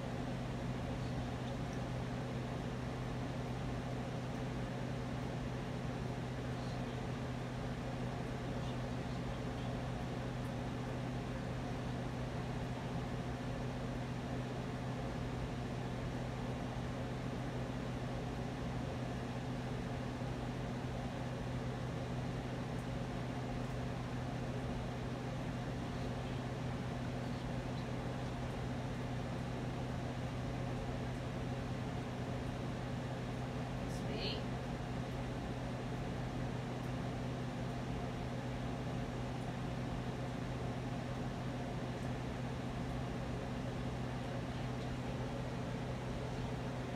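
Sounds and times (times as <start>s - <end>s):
low constant hum: 0.0s - 46.9s.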